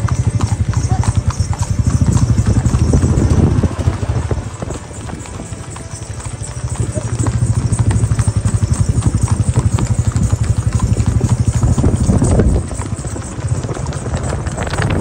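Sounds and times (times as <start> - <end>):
horse hooves clip-clopping: 0.0 - 15.0.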